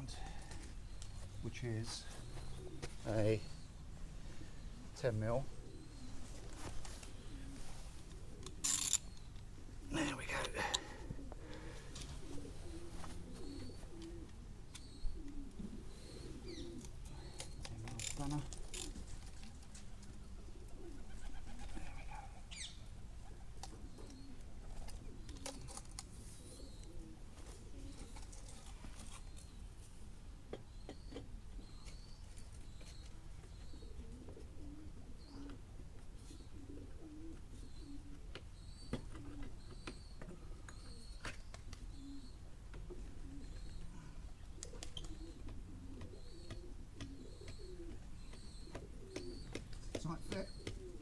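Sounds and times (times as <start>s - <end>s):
pigeon cooing: 0.0s - 29.1s, 33.5s - 51.0s
small birds chirping: 0.0s - 51.0s.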